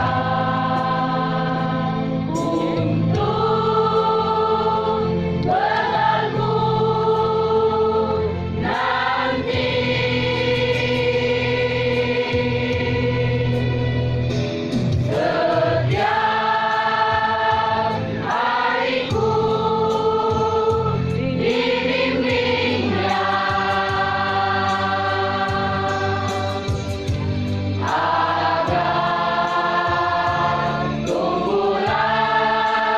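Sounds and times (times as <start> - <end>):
mixed choir singing long notes: 0.0 - 32.9.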